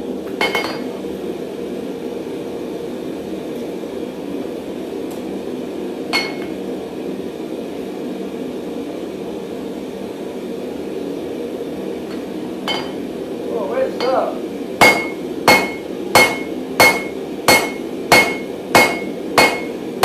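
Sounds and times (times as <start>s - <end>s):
workshop equipment humming: 0.0s - 20.0s.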